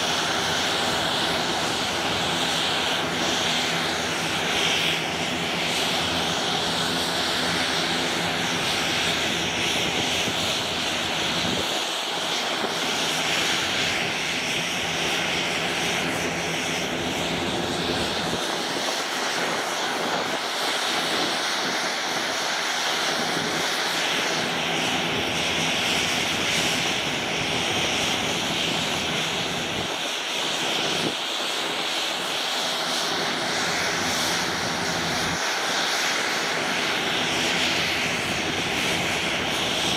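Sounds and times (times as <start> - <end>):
turboprop engines whining: 0.0 - 39.9.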